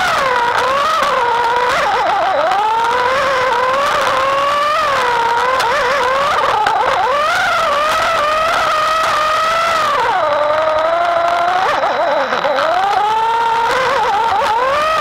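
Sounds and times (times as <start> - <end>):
slot car motor whining: 0.0 - 15.0.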